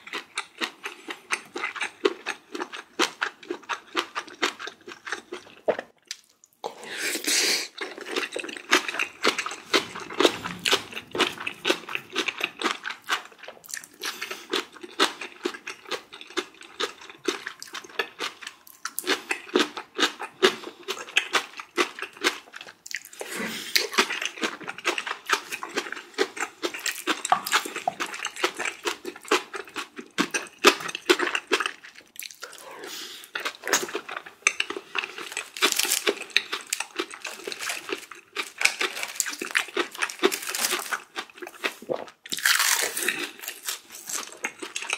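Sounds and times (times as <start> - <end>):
person chewing and crunching food: 0.0 - 44.9.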